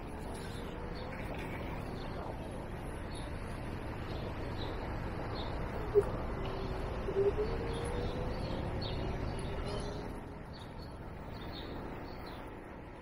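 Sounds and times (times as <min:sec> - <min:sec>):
birds chirping: 0:00.0 - 0:13.0
low rumble of street noise: 0:00.0 - 0:13.0.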